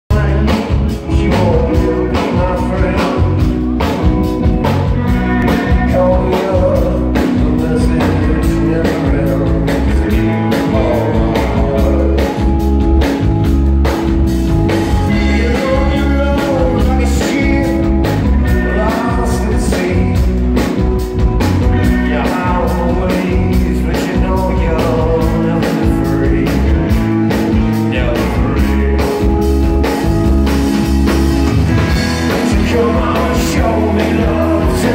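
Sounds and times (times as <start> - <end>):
person singing lead vocals: 0.0 - 13.3, 14.8 - 20.9, 21.5 - 30.0, 31.8 - 34.9
rock band playing: 0.1 - 34.9.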